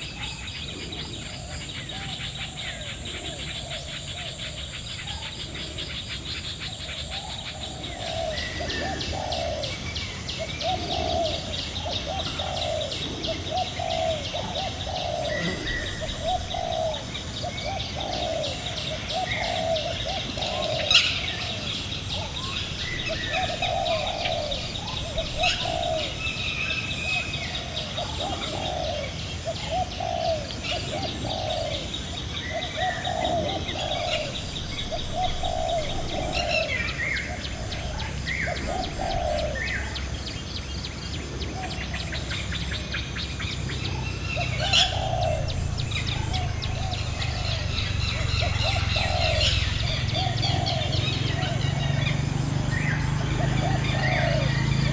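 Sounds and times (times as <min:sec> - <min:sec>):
birds calling and chirring: 0:00.0 - 0:54.9
steady high-pitched whine: 0:00.0 - 0:54.9.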